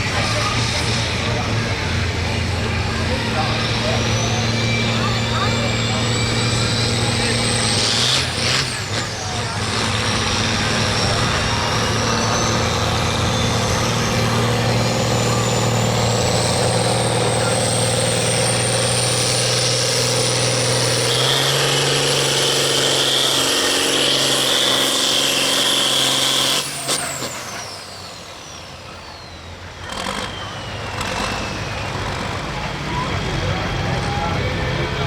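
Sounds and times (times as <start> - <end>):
diesel tractor engine at full throttle: 0.0 - 35.0
high turbo whine: 0.0 - 35.0.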